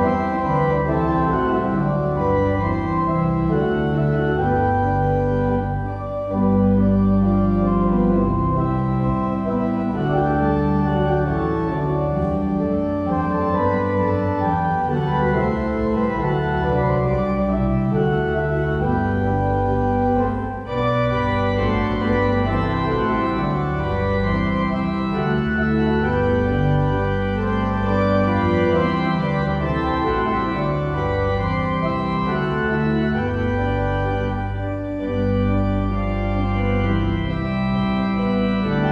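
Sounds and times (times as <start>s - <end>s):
organ playing slow chords: 0.0s - 38.9s.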